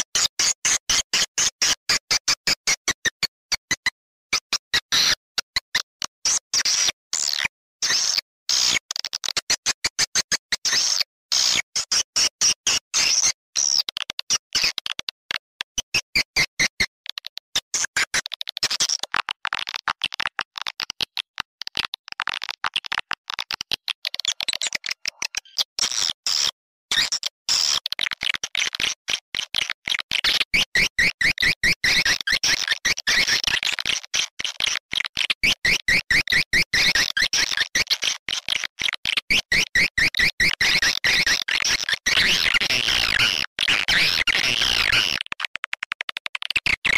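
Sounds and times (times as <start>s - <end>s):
high-pitched bird chirping and clicking: 0.0s - 46.9s.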